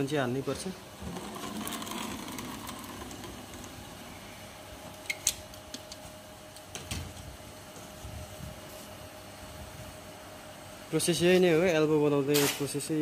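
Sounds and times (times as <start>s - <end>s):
faint steady hum: 0.0s - 12.3s.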